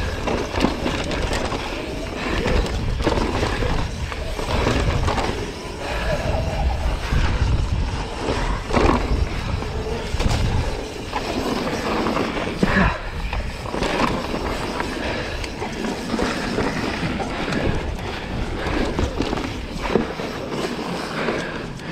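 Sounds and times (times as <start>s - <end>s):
bike chain and frame rattling: 0.0s - 21.9s
bike tyres on dirt trail: 0.0s - 21.9s.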